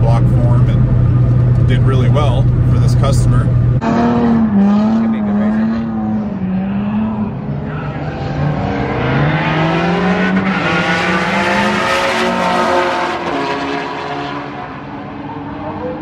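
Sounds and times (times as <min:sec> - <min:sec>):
race car engines at full throttle: 0:00.0 - 0:16.0.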